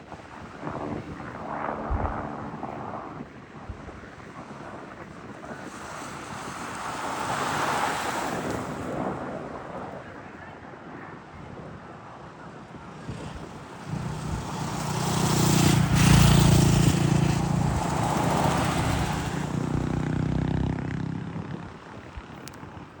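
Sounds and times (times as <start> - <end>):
helicopter passing: 0.1 - 10.0, 12.6 - 22.9.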